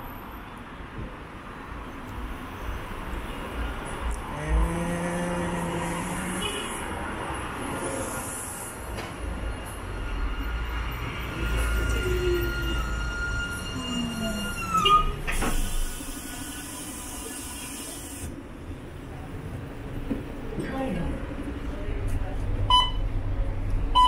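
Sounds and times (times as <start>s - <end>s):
traffic noise: 0.0s - 24.0s
tram approaching: 0.0s - 24.0s.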